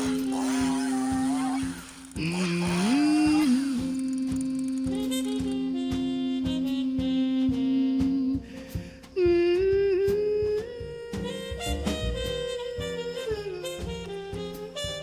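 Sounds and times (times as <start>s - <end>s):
instrumental jazz with saxophone: 0.0s - 15.0s.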